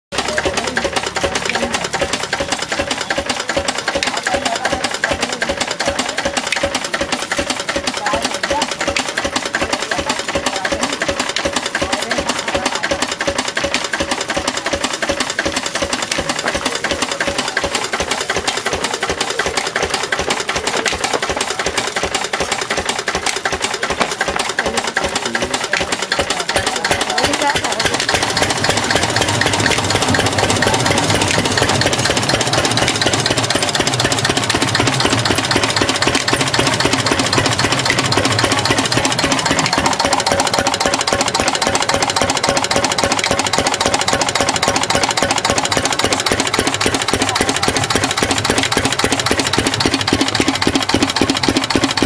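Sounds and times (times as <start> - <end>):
diesel engine clattering: 0.1 - 52.0.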